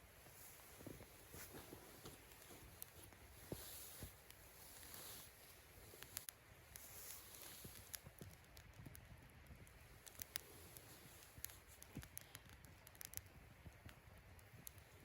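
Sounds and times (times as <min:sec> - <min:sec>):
wood fire crackling: 0:00.0 - 0:15.0
sharp pops and snaps: 0:00.2 - 0:15.0.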